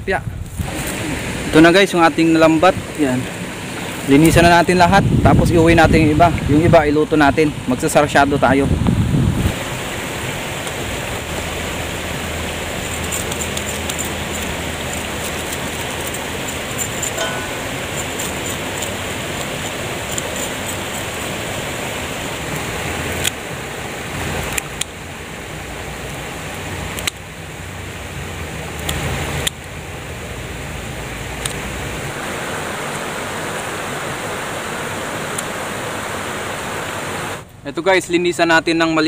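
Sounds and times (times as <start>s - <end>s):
river water rushing: 0.6s - 37.5s.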